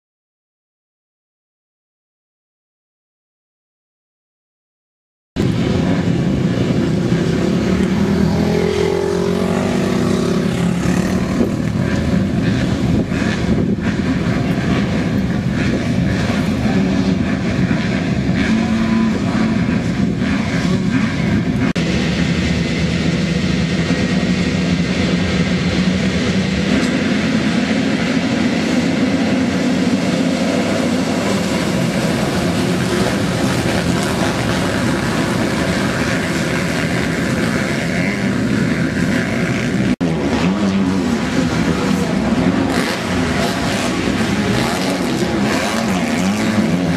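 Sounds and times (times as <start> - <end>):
motocross engines revving: 5.4 - 46.9
motorbikes accelerating away: 5.4 - 46.9.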